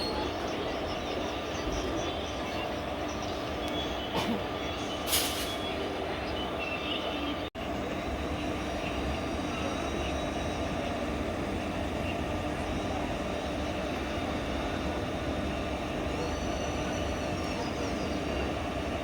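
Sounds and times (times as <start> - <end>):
train wheels rumbling on rails: 0.1 - 19.0.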